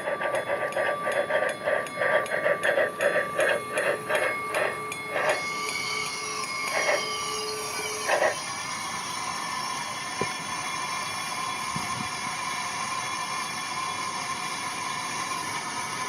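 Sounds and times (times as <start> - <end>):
steam hissing: 0.0 - 13.4
steam locomotive chuffs: 0.0 - 16.0.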